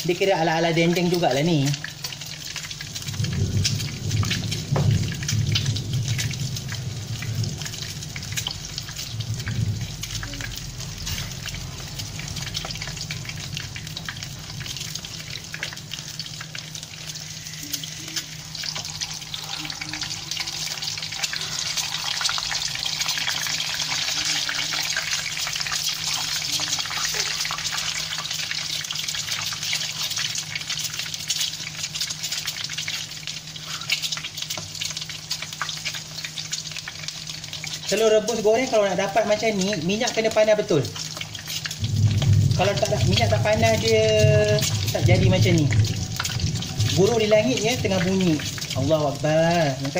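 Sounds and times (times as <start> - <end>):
eggs sizzling in hot oil: 0.0 - 49.9.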